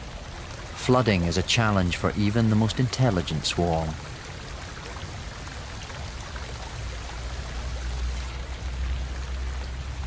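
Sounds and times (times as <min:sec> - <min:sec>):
water pouring and running: 0:00.0 - 0:10.0.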